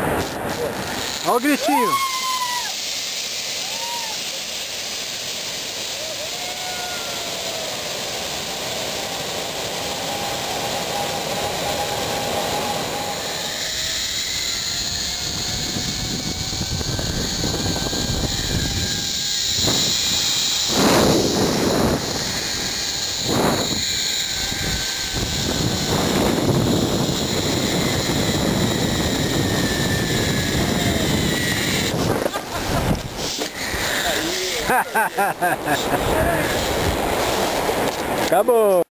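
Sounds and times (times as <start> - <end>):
zipline pulleys whirring: 0.0 - 38.4.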